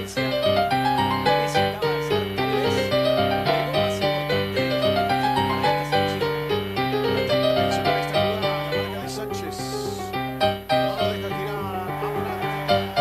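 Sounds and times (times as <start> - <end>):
lively solo piano music: 0.0 - 13.0.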